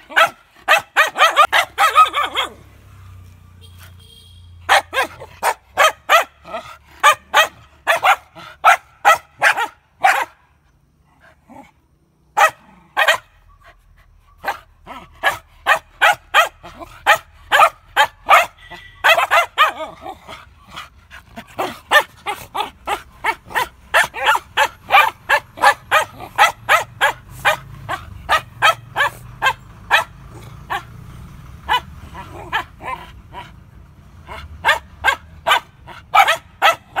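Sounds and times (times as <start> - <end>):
dogs barking: 0.0 - 2.7, 4.7 - 10.5, 12.3 - 13.7, 14.4 - 37.0.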